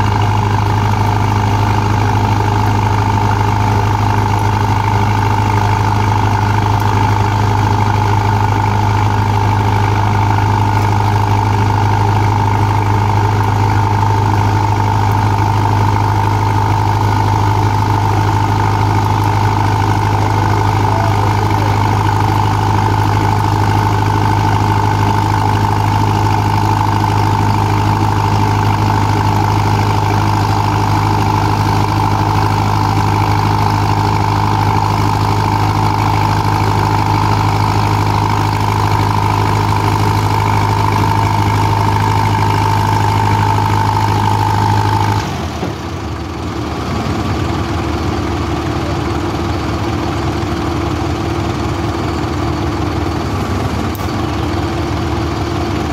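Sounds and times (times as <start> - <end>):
heavy engines running under load: 0.0 - 55.9.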